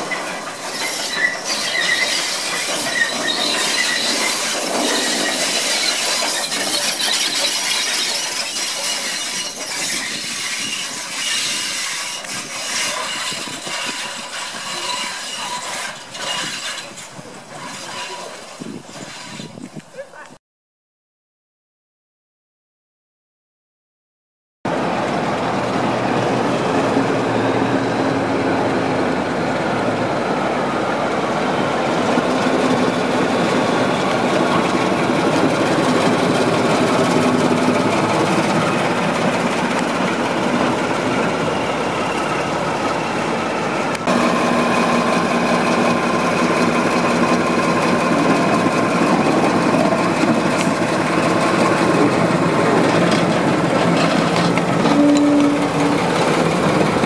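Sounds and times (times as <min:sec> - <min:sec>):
diesel locomotive engine running: 0:00.0 - 0:19.8, 0:24.7 - 0:57.0.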